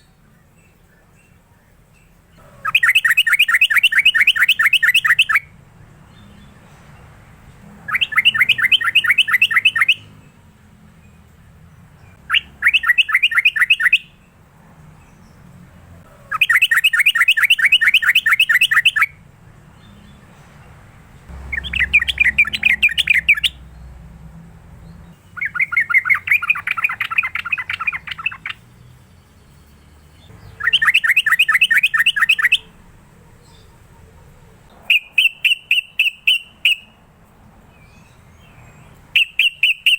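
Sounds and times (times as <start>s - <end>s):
bird chattering song: 0.0s - 6.8s, 7.7s - 10.4s, 11.0s - 19.2s, 19.8s - 24.0s, 24.7s - 37.0s, 37.7s - 39.9s.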